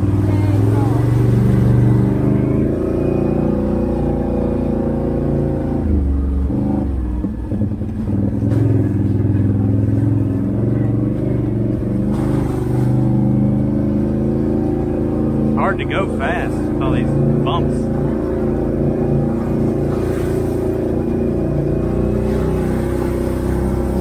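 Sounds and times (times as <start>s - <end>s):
loud atv engine running: 0.0s - 24.0s.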